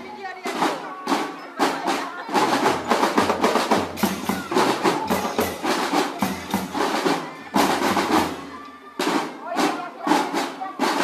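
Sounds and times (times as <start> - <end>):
marching drum band: 0.0 - 11.0.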